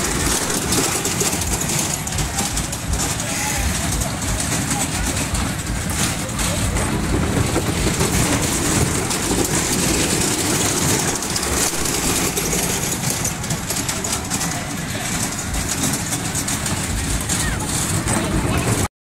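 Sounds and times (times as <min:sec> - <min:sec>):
kiddie ride mechanical noise: 0:00.0 - 0:18.9.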